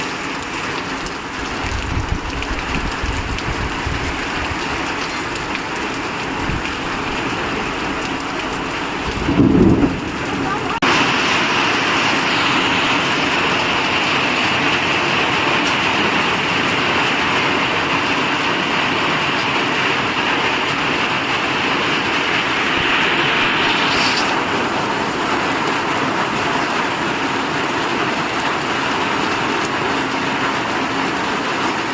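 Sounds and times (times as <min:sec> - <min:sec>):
heavy rain pouring: 0:00.0 - 0:31.9.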